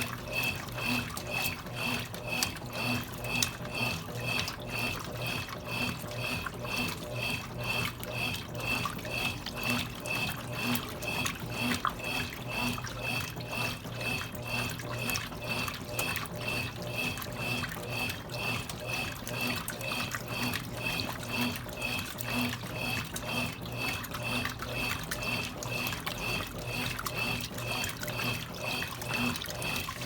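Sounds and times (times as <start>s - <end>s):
washing machine running: 0.0s - 30.0s.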